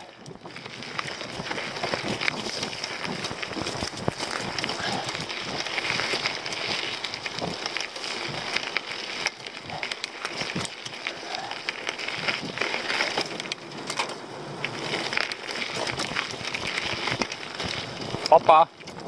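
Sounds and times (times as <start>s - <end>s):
bike clicking and rattling: 0.0s - 19.0s
tyres crunching over dirt: 0.0s - 19.0s.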